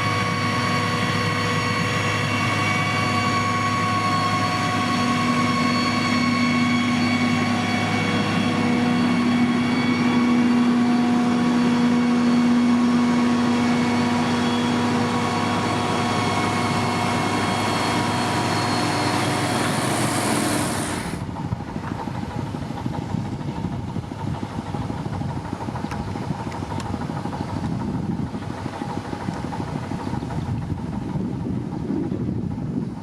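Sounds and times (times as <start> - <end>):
diesel engine running: 0.0 - 33.0
rough engine sound: 0.0 - 33.0.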